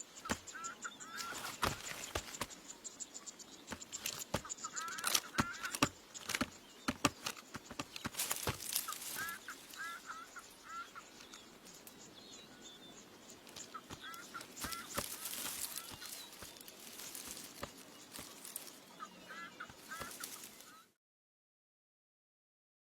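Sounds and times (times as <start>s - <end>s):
faint outdoor rustling: 0.0s - 21.0s.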